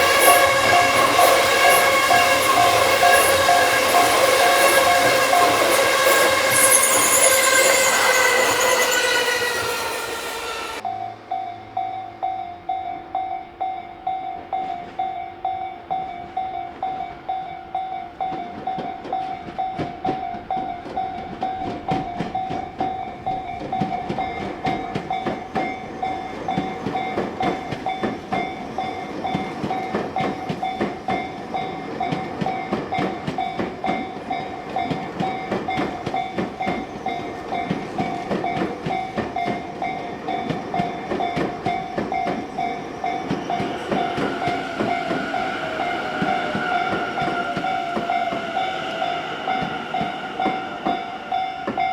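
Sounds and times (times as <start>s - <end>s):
train wheels clattering: 0.0s - 10.9s, 14.1s - 51.9s
level-crossing warning bell: 0.0s - 51.9s.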